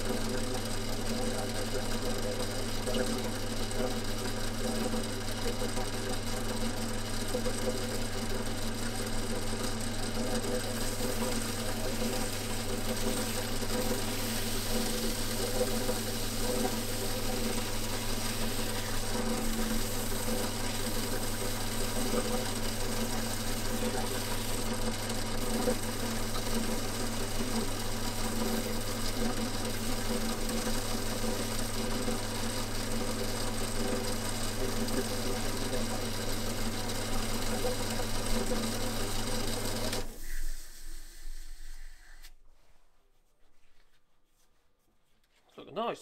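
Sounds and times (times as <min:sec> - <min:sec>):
belt-driven machine motor hum: 0:00.0 - 0:40.1.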